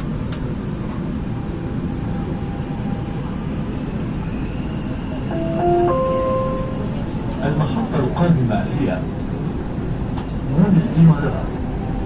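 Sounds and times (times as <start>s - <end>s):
metro train running: 0.0s - 12.0s.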